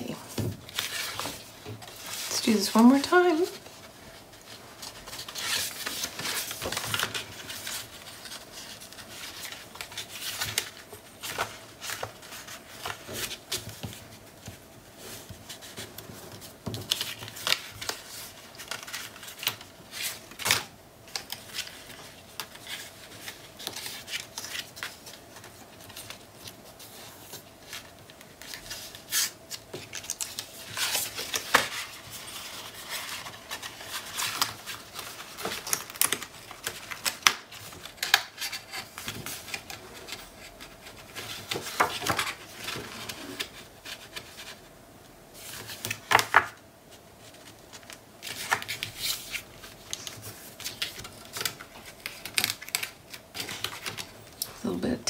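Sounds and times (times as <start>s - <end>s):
paper rustling and scraping: 0.0s - 44.7s, 45.4s - 54.2s.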